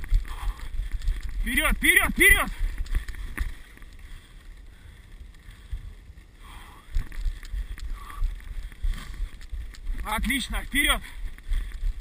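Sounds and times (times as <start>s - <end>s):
low uneven rumble: 0.0s - 12.0s.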